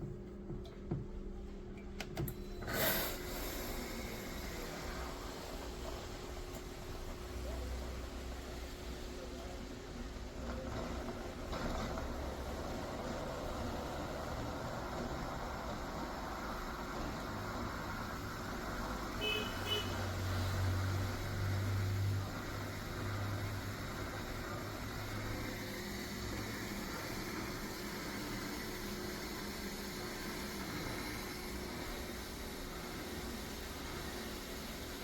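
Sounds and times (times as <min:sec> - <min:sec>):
coffee maker humming: 0:02.6 - 0:35.0.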